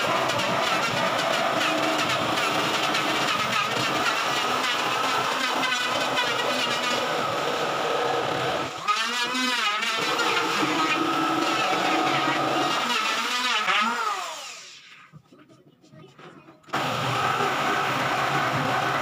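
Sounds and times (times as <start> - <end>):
jigsaw cutting plywood: 0.0 - 14.8, 16.7 - 19.0.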